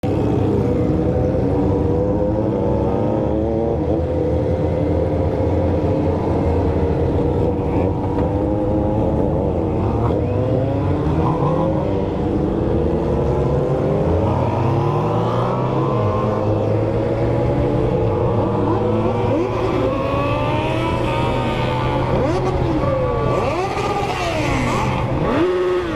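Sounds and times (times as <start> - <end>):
motorcycles idling and revving: 0.0 - 25.9.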